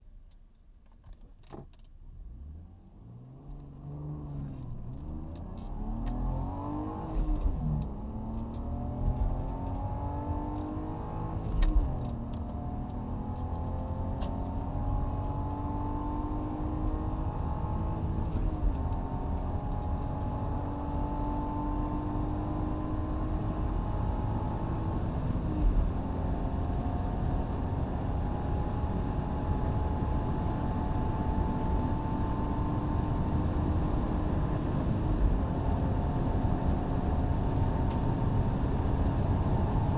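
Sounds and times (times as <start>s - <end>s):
car engine accelerating: 2.1s - 39.9s.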